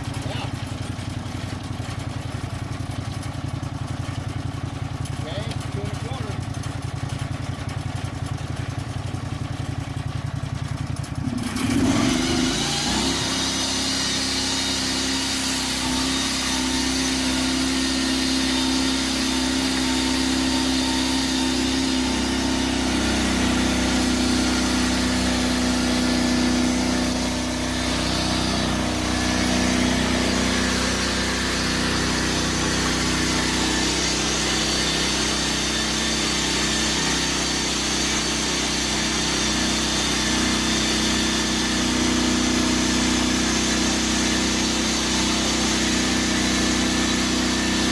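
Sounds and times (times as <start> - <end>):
sawmill blade cutting log: 8.7 - 47.9.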